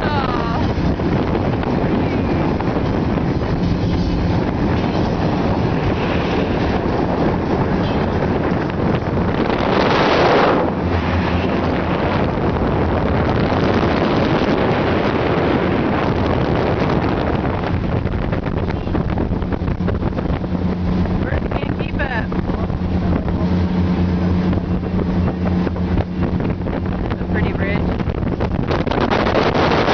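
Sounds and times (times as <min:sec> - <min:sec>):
boat engines: 0:00.0 - 0:29.9
water rushing: 0:00.0 - 0:29.9
wind buffeting microphone: 0:00.0 - 0:29.9.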